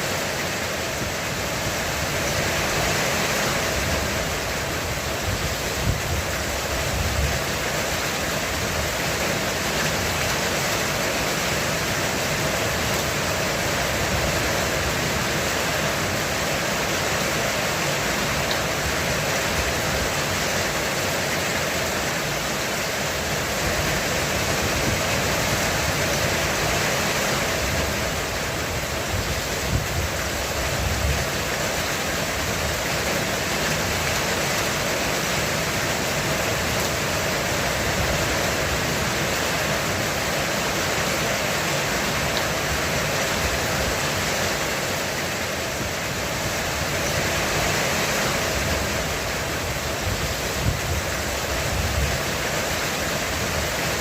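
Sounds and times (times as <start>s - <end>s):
heavy rain drumming on a roof: 0.0s - 54.0s.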